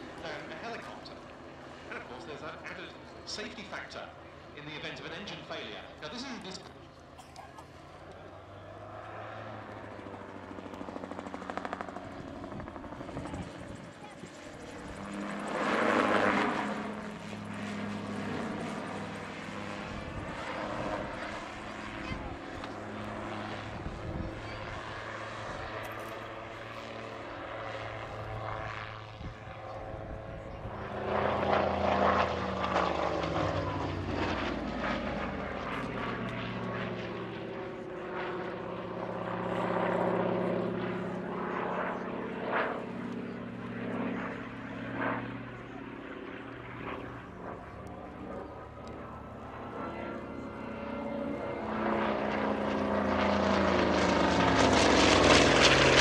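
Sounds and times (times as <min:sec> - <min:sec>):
autogyro engine and propeller: 0:00.0 - 0:56.0.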